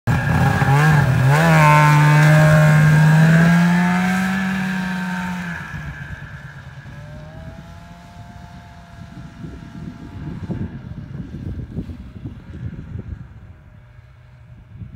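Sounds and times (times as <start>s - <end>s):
snowmobile engine revving: 0.1s - 14.1s.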